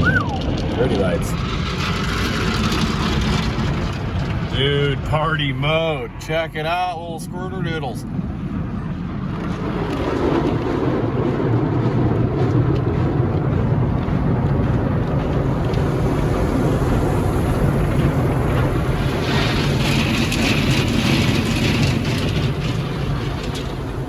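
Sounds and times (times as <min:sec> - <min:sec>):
car wash machinery and spray jets: 0:00.0 - 0:24.0.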